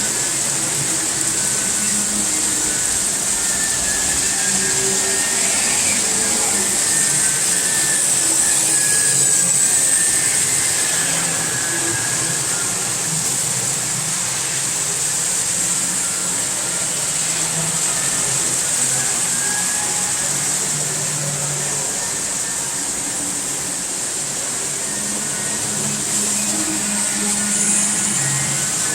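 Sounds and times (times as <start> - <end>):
model train motor whine: 0.0 - 28.9.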